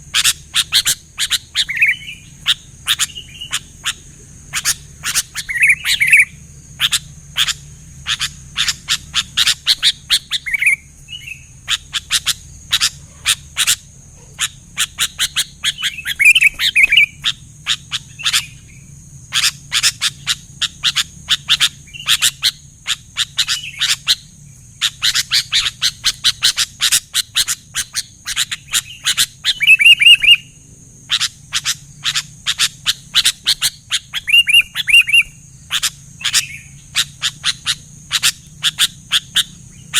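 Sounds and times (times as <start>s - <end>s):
bulbul singing sharp chirps: 0.0s - 39.9s.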